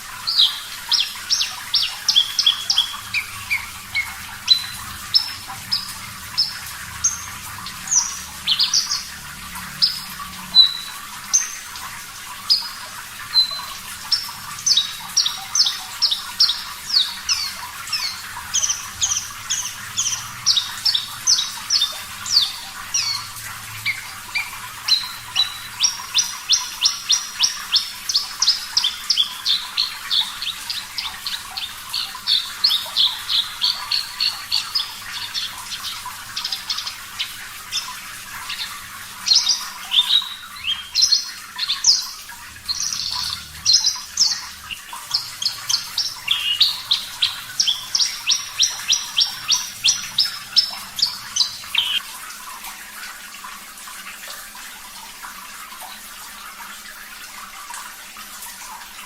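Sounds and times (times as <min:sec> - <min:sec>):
running water: 0:00.0 - 0:59.0
bird singing sharp repeated notes: 0:00.2 - 0:09.2, 0:09.8 - 0:11.7, 0:12.5 - 0:52.1.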